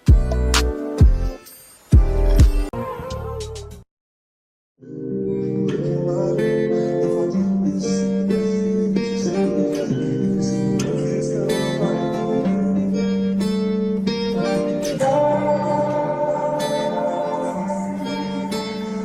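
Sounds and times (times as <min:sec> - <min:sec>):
acoustic guitar chords: 0:00.0 - 0:01.4, 0:04.8 - 0:19.0.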